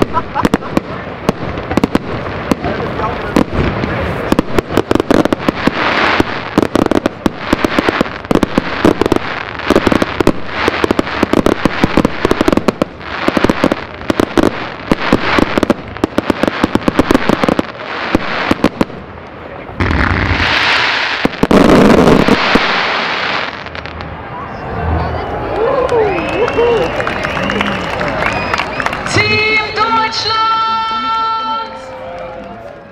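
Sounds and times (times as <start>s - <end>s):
fireworks crackling and popping: 0.0s - 24.2s, 25.6s - 32.9s.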